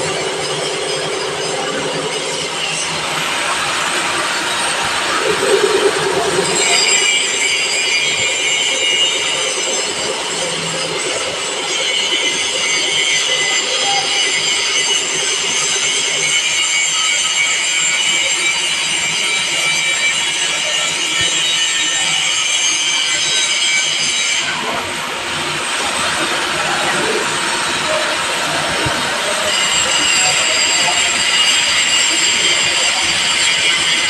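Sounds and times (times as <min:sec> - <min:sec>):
milling cutter high-pitched squeal: 0:00.0 - 0:24.8, 0:25.6 - 0:34.0.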